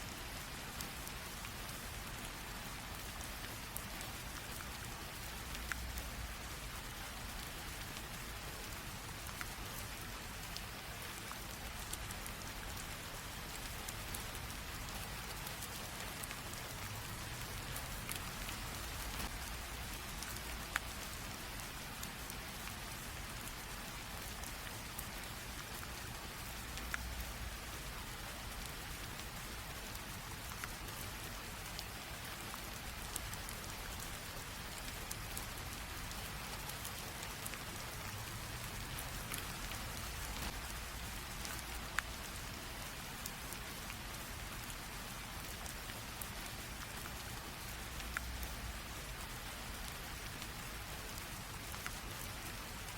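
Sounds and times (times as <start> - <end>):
light rain hissing: 0.0 - 52.9
raindrops ticking on surface: 0.0 - 52.9.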